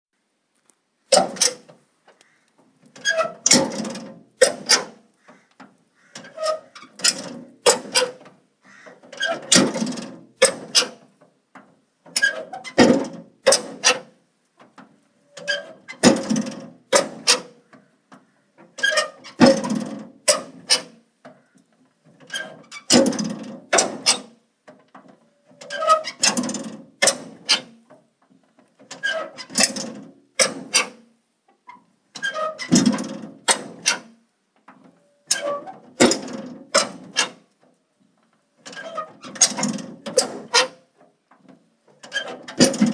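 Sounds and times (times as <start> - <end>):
metal door opening with rattles: 1.1 - 1.8, 2.8 - 5.0, 5.6 - 31.0, 31.8 - 37.8, 38.6 - 42.9.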